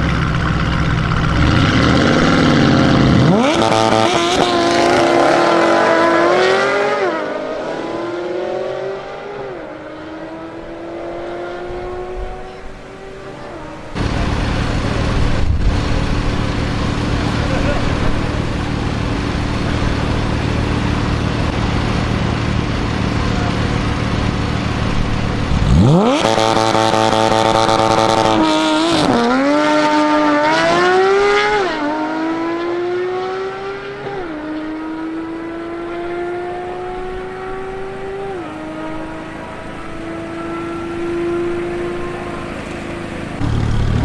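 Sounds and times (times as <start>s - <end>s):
car engine revving and upshifting: 1.2s - 44.0s.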